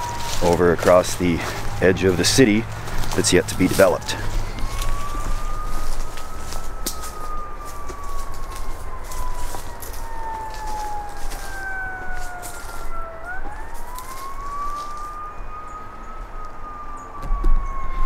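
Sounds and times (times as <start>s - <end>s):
emergency vehicle siren wailing: 0.0s - 18.0s.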